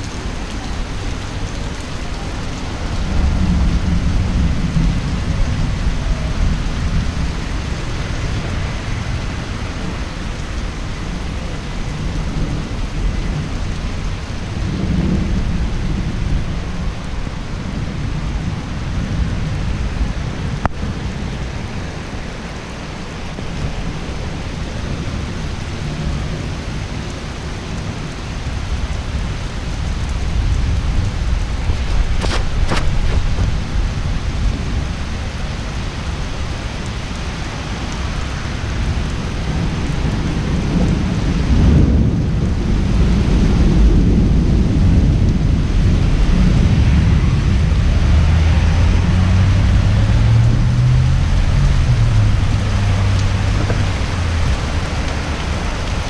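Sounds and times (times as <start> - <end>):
rolling thunder: 0.0 - 21.7, 28.6 - 36.6, 38.6 - 56.0
heavy rain pouring: 0.0 - 56.0.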